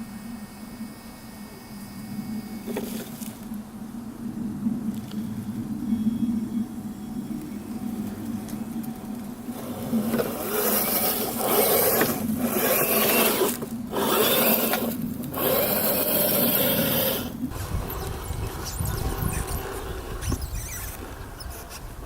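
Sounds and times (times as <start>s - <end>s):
toy car drivetrain whine: 1.7s - 3.6s, 4.6s - 22.0s.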